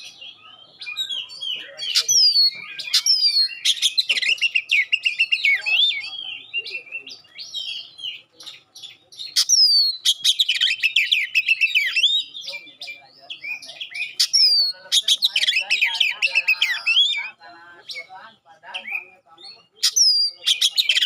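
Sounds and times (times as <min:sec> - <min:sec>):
bird singing chattering song: 0:00.0 - 0:21.0.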